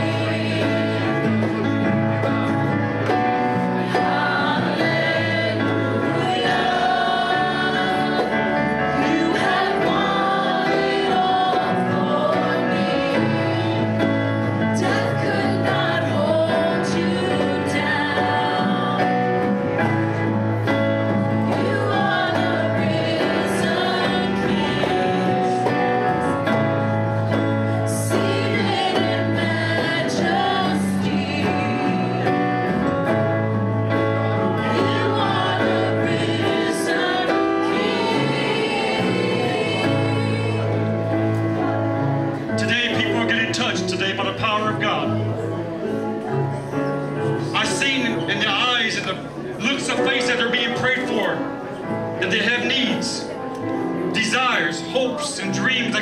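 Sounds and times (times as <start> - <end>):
gospel singing: 0.0 - 56.0
instrumental backing: 0.0 - 56.0.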